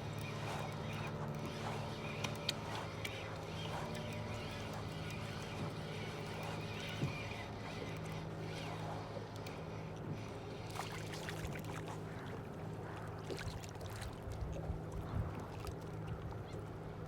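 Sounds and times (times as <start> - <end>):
steady low hum: 0.0 - 14.0
water sloshing and lapping: 0.0 - 17.0.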